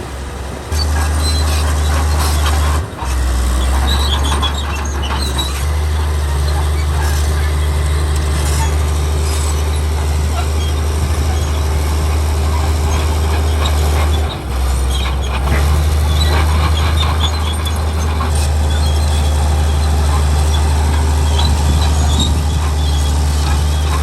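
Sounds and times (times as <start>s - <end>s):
heavy diesel machinery droning: 0.0s - 24.0s.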